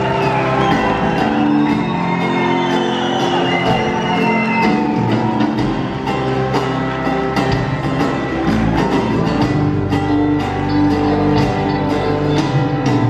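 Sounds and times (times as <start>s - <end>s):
live band playing instrumental: 0.0s - 13.0s.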